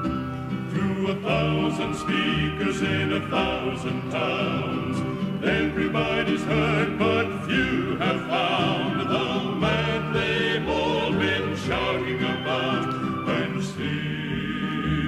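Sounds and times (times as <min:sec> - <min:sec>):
male vocal quartet singing gospel: 0:00.6 - 0:15.0.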